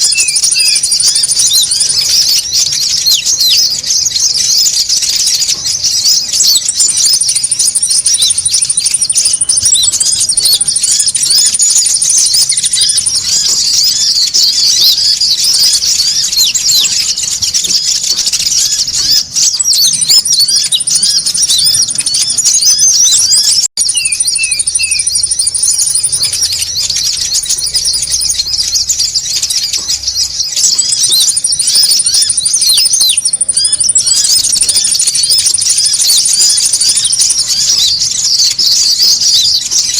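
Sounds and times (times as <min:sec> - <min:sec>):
songbirds twittering: 0:00.0 - 0:39.9
thin high bird trill: 0:00.0 - 0:39.9.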